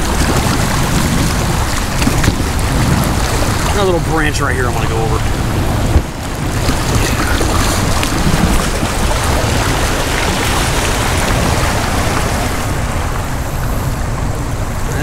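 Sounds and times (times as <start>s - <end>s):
river water rushing: 0.0s - 15.0s
wind rumble on microphone: 0.0s - 15.0s.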